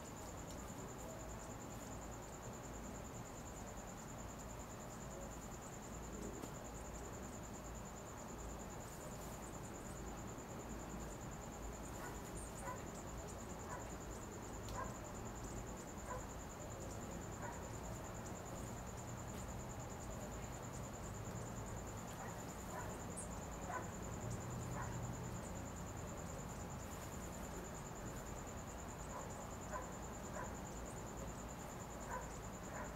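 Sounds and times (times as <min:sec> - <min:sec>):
cricket trilling: 0:00.0 - 0:32.9.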